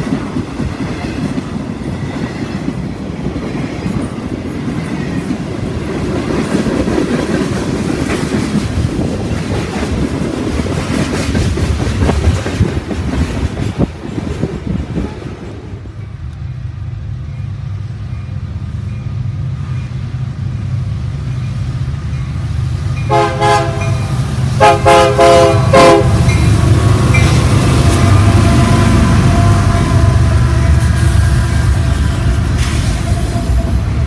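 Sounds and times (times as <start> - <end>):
freight train wheel clatter: 0.0 - 16.2, 17.3 - 34.0
diesel locomotive engine rumble: 0.0 - 34.0.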